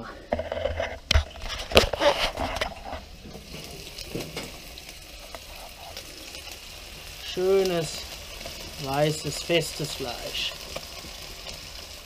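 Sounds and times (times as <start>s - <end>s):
fish sizzling on a griddle: 0.4s - 12.0s.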